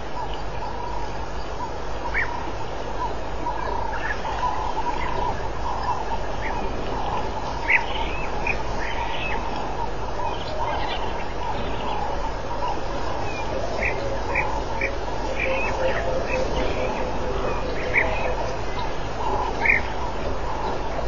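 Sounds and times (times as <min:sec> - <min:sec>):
wild dogs chattering: 0:00.0 - 0:21.0
wild dogs high chirps: 0:00.0 - 0:21.0.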